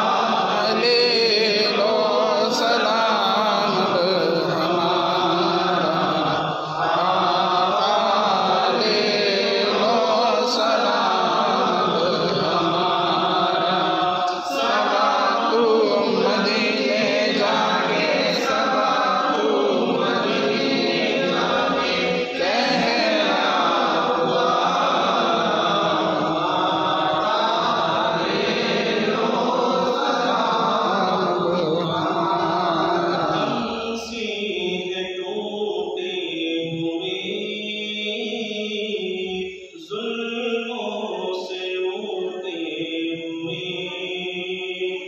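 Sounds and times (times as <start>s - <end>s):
men chanting: 0.0s - 45.0s.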